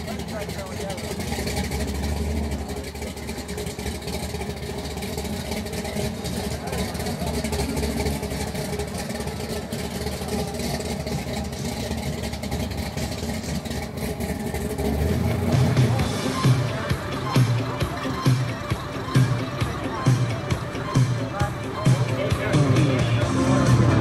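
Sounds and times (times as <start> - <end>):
car engine passing slowly: 0.0 - 24.0.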